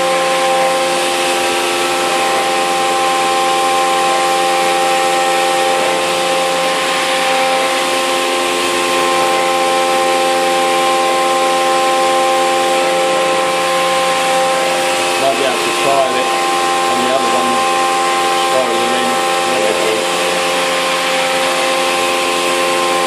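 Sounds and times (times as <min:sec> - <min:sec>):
milling spindle whine: 0:00.0 - 0:23.0.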